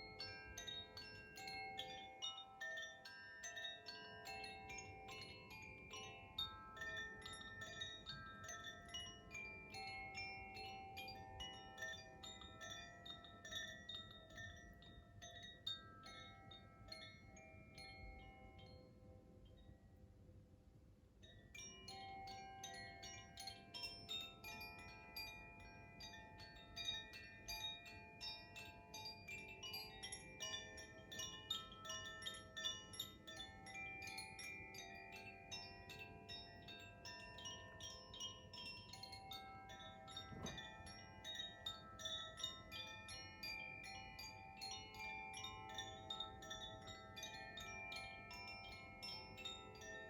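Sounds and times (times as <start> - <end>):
bamboo wind chimes ringing: 0.0 - 20.0, 21.2 - 50.0.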